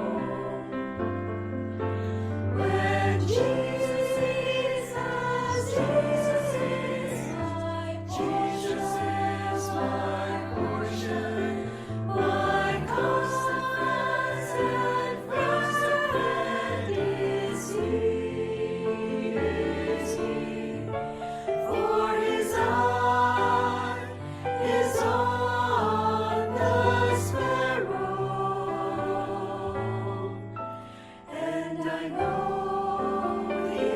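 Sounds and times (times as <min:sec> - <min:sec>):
choir singing: 0:00.0 - 0:33.9.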